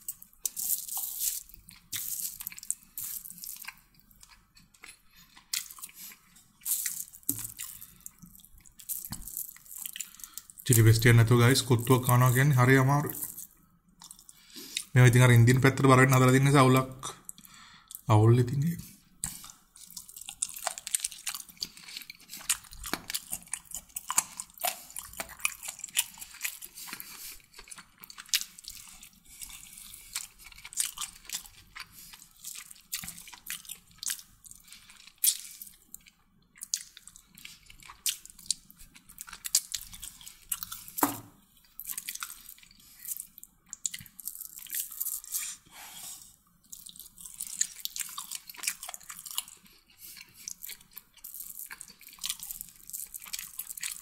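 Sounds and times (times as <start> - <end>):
close-up chewing: 0.0 - 10.8, 14.0 - 15.0, 19.2 - 54.0.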